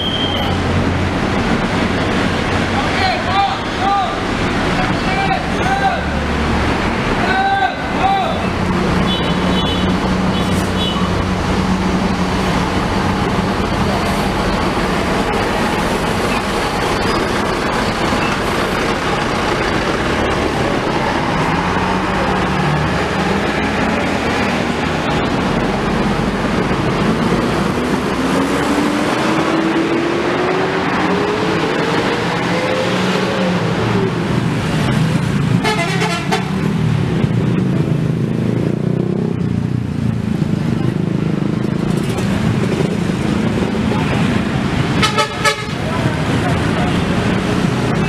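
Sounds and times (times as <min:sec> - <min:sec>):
vehicle accelerating: 0:00.0 - 0:45.1, 0:45.7 - 0:48.0
bus diesel engine passing: 0:00.0 - 0:48.0
road traffic noise: 0:00.0 - 0:48.0.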